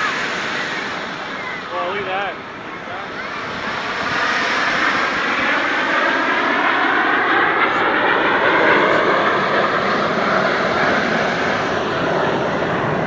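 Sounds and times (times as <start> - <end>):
jets flying past roaring: 0.0 - 13.0.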